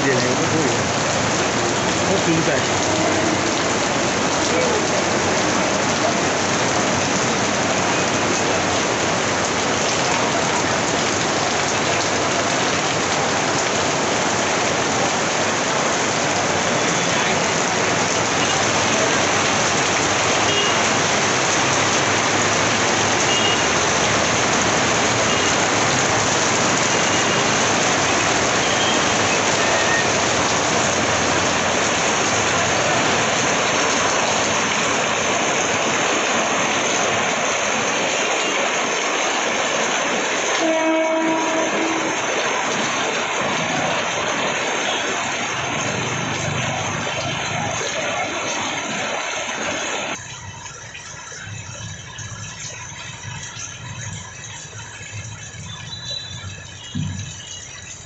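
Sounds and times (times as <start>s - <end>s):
heavy rain hissing: 0.0s - 50.6s
runoff pouring from awning: 0.0s - 58.0s.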